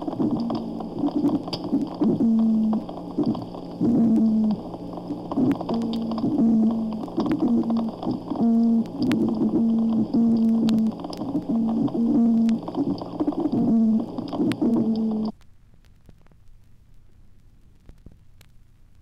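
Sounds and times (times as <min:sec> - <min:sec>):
snapping shrimp crackle: 0:00.0 - 0:15.3
toadfish deep tones: 0:00.0 - 0:15.3.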